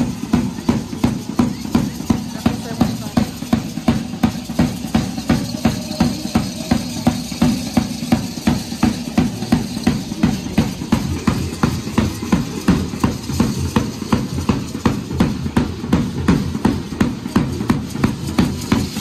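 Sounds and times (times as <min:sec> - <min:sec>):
drum beating dance rhythm: 0:00.0 - 0:19.0.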